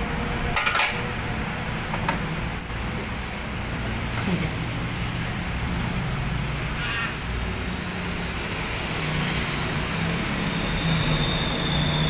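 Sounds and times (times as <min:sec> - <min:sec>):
traffic rumble and hiss: 0:00.0 - 0:12.0.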